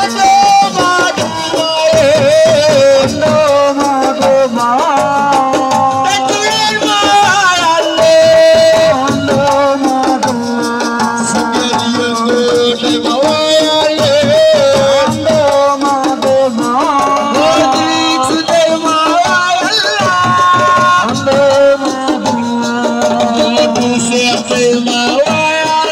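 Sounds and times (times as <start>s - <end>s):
hand drums: 0.0s - 25.9s.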